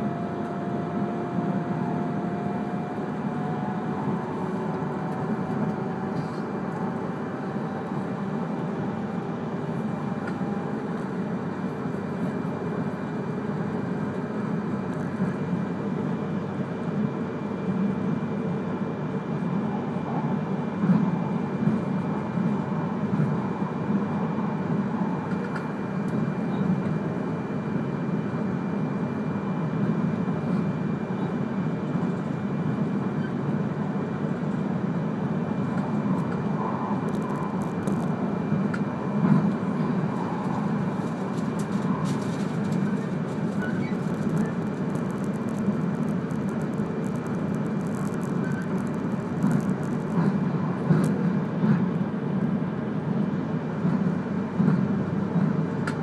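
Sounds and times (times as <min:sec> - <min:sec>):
faint whine: 0:00.0 - 0:53.2
train wheels rumbling on rail: 0:00.0 - 0:56.0.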